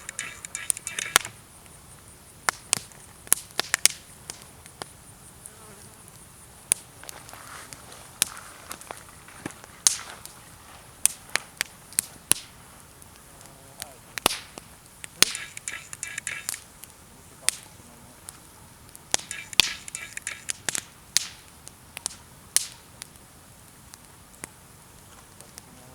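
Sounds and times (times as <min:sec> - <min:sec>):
campfire crackling and popping: 0:00.0 - 0:25.9
soft fire hiss: 0:00.0 - 0:25.9.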